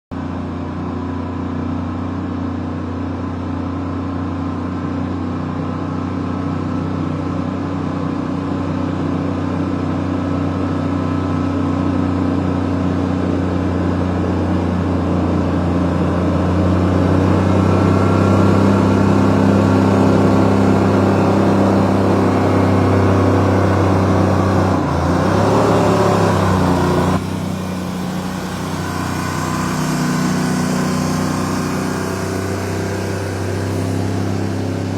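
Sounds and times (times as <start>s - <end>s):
truck engine running: 0.2s - 34.9s.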